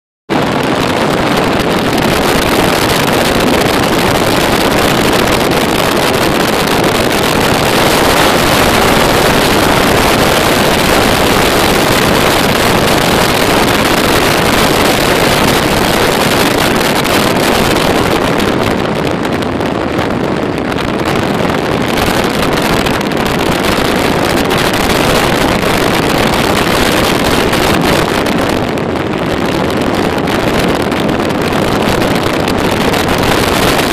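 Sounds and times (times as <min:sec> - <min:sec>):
engine and road noise: 0:00.3 - 0:33.9
wind rushing over microphone: 0:00.3 - 0:33.9.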